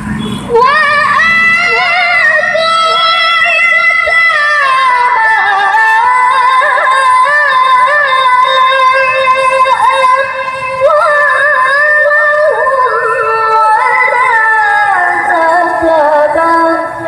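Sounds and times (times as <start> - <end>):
woman chanting into a microphone: 0.5 - 17.0.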